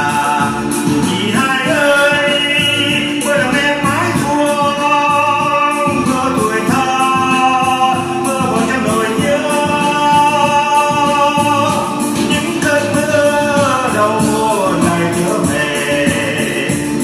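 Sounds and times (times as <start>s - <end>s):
instrumental accompaniment: 0.0s - 17.0s
person singing: 0.0s - 17.0s.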